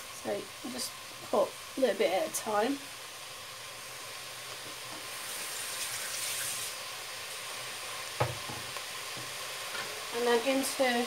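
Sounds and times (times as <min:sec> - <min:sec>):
spinach sizzling in oil: 0:00.0 - 0:11.0.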